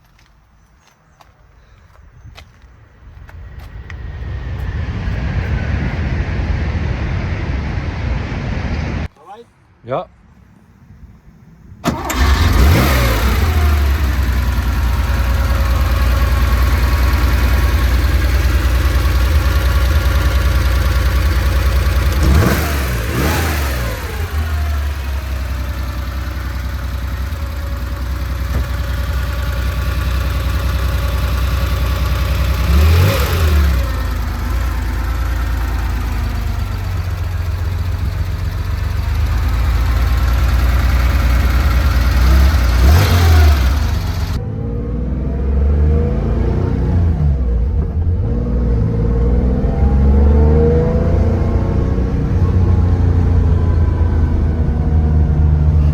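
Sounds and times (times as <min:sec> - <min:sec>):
car engine starting and idling: 0:10.5 - 0:55.9
engine throttle blips: 0:11.0 - 0:55.9.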